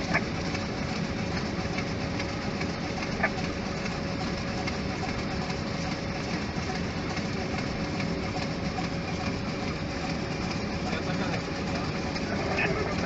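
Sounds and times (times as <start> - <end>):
airflow and engine rush: 0.0 - 13.0.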